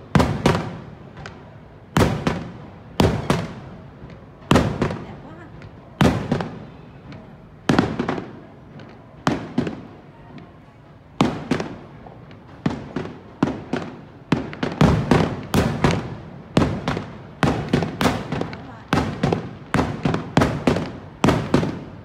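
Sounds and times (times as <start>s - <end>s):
fireworks bursting with echo: 0.0s - 22.0s.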